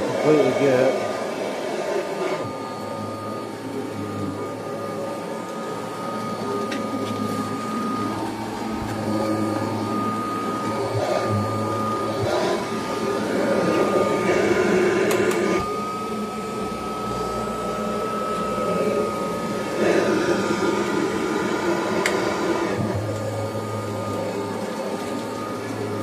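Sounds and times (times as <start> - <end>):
vacuum cleaner whining: 0.0 - 26.0.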